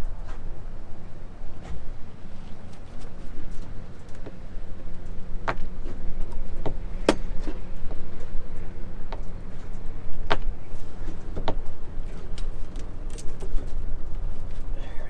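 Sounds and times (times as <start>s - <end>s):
faint hum: 0.0s - 15.0s
steady low rumble: 0.0s - 15.0s.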